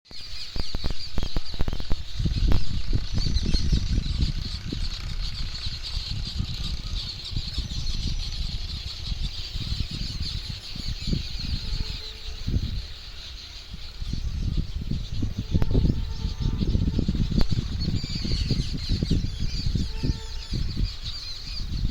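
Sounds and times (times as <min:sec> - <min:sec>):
small birds chirping: 0:00.0 - 0:21.9
low rumbling: 0:00.6 - 0:21.9.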